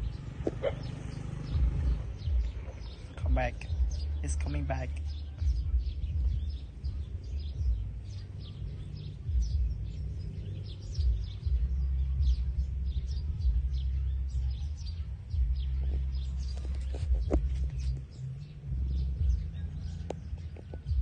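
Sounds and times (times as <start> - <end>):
wind rumbling on microphone: 0.0 - 4.2, 5.0 - 21.0.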